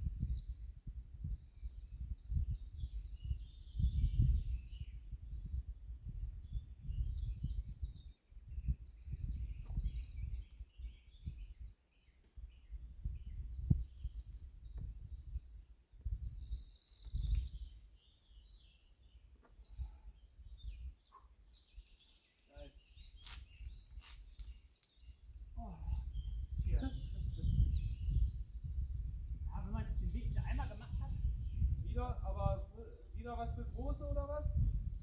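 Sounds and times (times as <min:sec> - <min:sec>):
wind on microphone: 0:00.0 - 0:18.8, 0:22.8 - 0:35.0
songbirds trilling: 0:05.8 - 0:28.9, 0:29.6 - 0:35.0.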